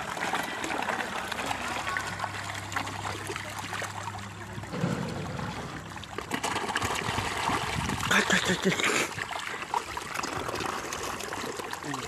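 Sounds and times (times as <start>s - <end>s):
fish splashing at the surface: 0.0s - 12.0s.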